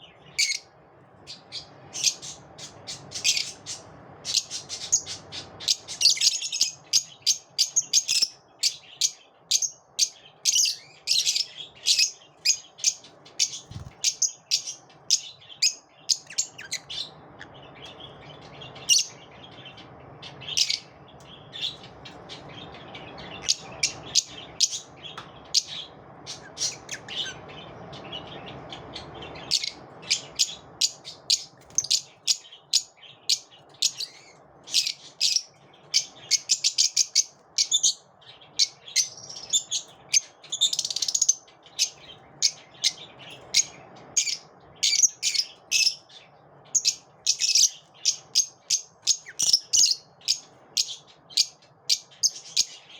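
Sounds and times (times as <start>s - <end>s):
lovebirds chirping: 0.0s - 52.9s
low background hum: 0.0s - 52.9s.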